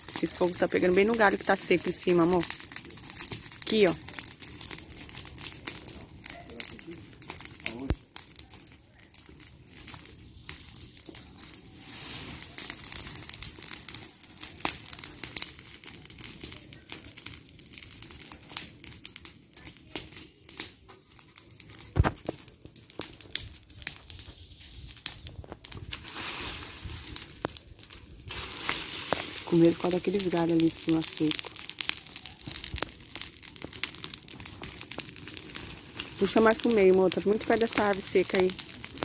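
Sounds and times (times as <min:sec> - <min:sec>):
brush fire crackling: 0:00.0 - 0:39.0.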